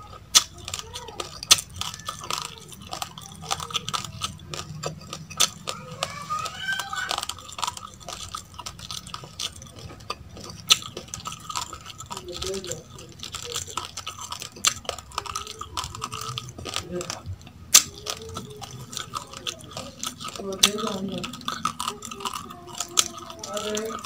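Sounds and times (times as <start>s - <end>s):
raw rice being chewed: 0.0s - 24.0s.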